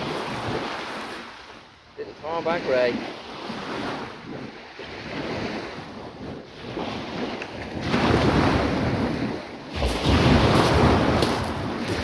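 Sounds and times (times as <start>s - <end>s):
surf on beach: 0.0s - 12.0s
wind rushing over microphone: 0.0s - 12.0s.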